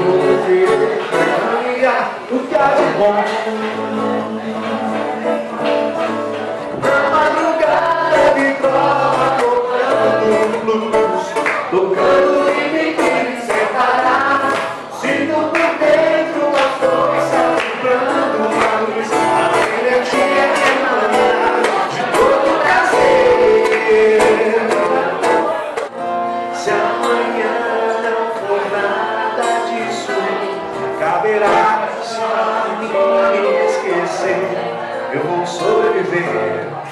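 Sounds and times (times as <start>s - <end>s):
acoustic guitar strumming: 0.0s - 36.9s
man singing into a microphone: 0.0s - 36.9s.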